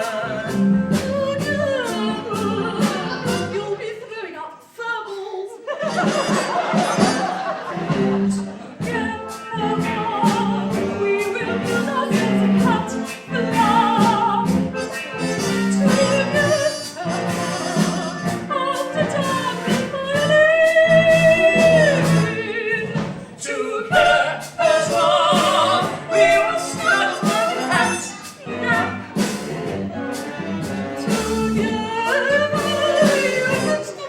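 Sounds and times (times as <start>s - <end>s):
instrumental backing music: 0.0s - 3.9s, 5.9s - 34.0s
voices singing with vibrato: 0.0s - 4.2s, 5.0s - 34.0s.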